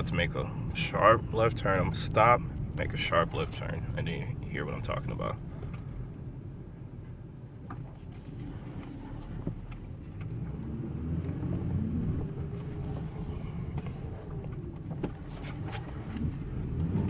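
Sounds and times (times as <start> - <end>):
truck low rumble and hum: 0.0 - 17.0.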